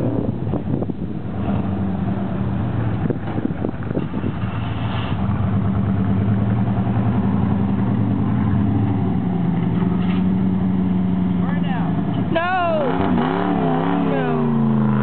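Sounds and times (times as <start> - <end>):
car engine passing slowly: 0.0 - 15.0.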